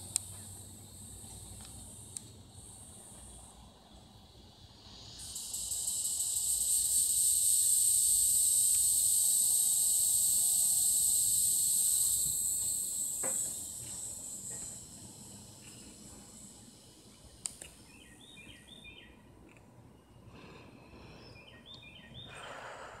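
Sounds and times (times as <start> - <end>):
cicadas buzzing: 0.0 - 19.3.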